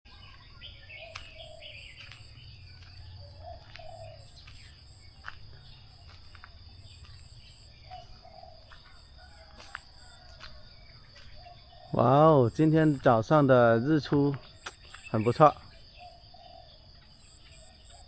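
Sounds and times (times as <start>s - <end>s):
birds chirping: 0.1s - 18.0s.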